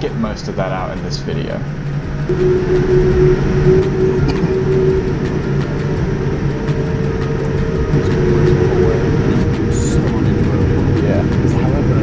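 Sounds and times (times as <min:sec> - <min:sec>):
airplane engine hum: 0:00.0 - 0:12.0
low rumble: 0:00.0 - 0:12.0.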